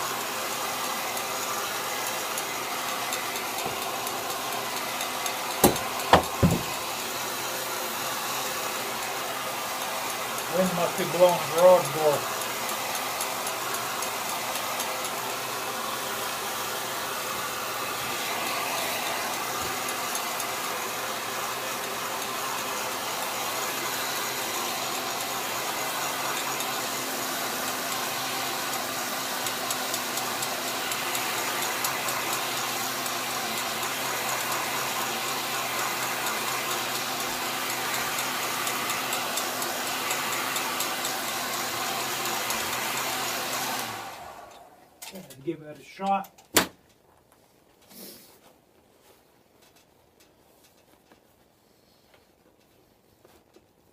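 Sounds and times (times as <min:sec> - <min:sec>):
heat gun fan hissing: 0:00.0 - 0:45.0.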